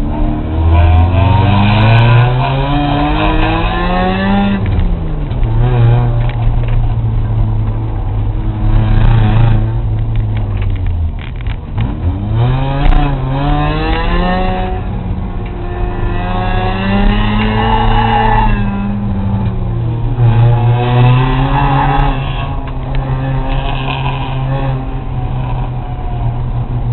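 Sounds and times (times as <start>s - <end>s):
race car engine revving: 0.0s - 26.9s.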